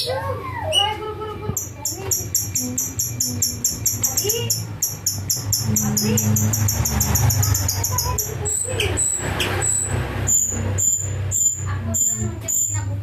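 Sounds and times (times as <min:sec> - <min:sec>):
songbird chirping and whistling: 0:01.6 - 0:12.9.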